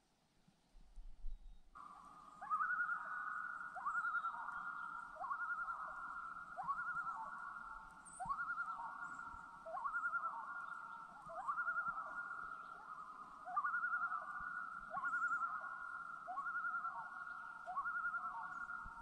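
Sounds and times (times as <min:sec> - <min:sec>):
loons tremolo calls: 0:01.8 - 0:19.0.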